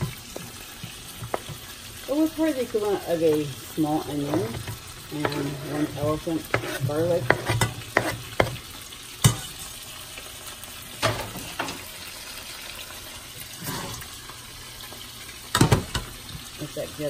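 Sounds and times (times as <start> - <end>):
fish frying sizzle: 0.0 - 17.0.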